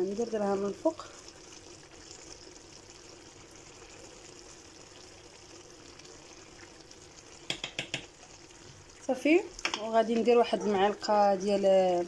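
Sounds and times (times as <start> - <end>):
stew simmering and bubbling: 0.0 - 12.0.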